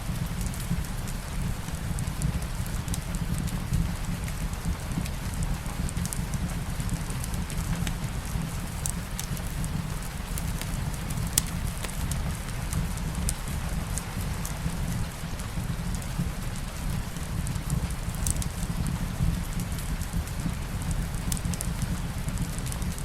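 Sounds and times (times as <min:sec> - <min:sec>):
fireplace fire crackling: 0:00.0 - 0:23.0
steady rain hiss: 0:00.0 - 0:23.0.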